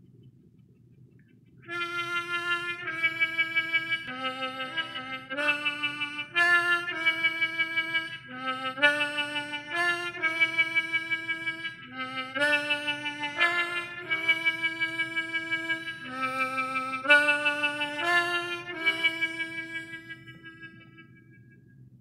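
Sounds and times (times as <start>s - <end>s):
harmonica tune: 1.6s - 21.8s.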